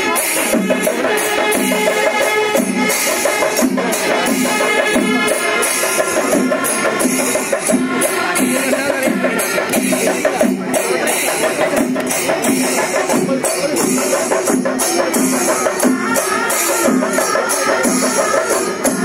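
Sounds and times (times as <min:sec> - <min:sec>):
clashing ringing cymbals: 0:00.0 - 0:19.0
massed drums: 0:00.0 - 0:19.0.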